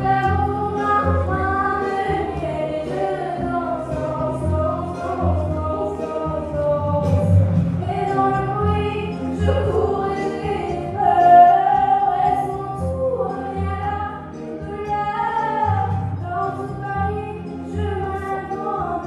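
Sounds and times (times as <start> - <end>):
girl singing into a microphone: 0.0 - 19.0
musical accompaniment with pulsing bass: 0.0 - 19.0.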